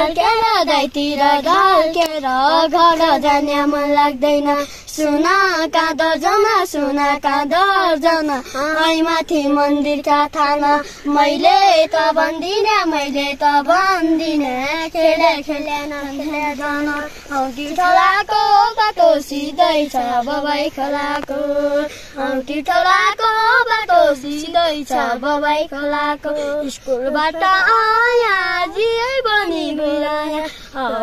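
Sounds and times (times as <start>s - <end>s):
boy and girl singing: 0.0s - 31.0s.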